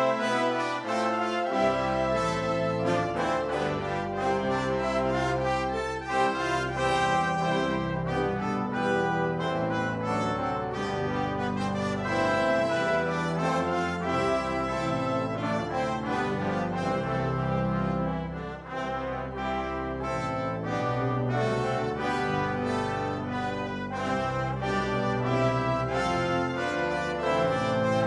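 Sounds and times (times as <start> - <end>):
brass ensemble sustained chords: 0.0 - 28.0.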